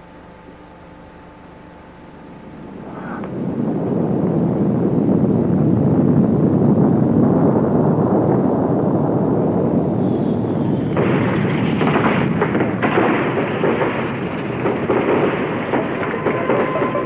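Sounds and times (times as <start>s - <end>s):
explosion rumbling and crackling: 2.2s - 17.0s.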